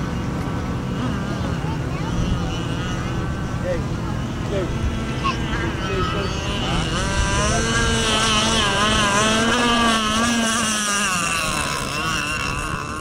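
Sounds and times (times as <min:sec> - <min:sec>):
lower engine note: 0:00.0 - 0:13.0
model boat engines whining: 0:00.0 - 0:13.0.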